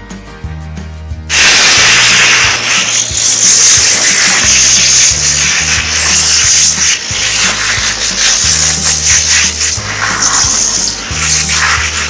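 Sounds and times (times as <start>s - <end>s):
pressure washer spraying metal: 1.3s - 12.0s.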